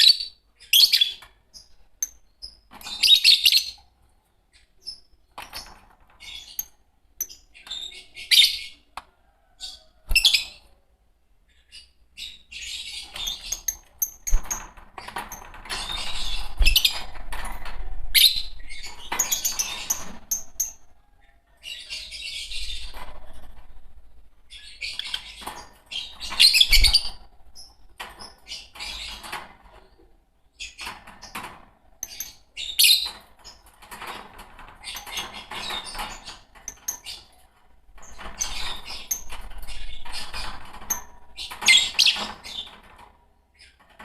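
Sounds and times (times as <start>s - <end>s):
lovebirds chattering and chirping: 0.0s - 43.9s.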